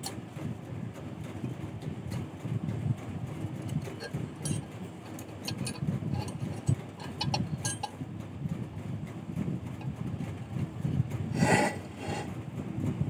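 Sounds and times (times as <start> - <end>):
steady low rumble: 0.2 - 13.0.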